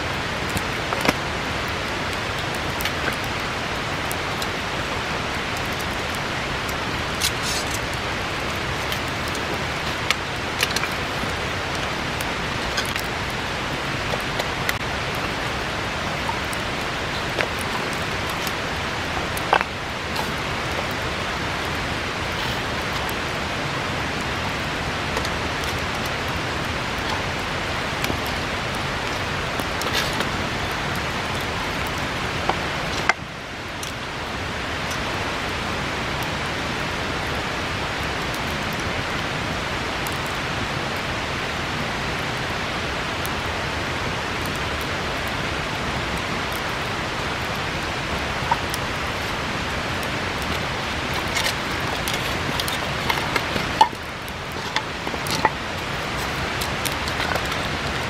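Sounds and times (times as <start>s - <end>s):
bonfire crackling and popping: 0.0s - 58.0s
river rushing: 0.0s - 58.0s.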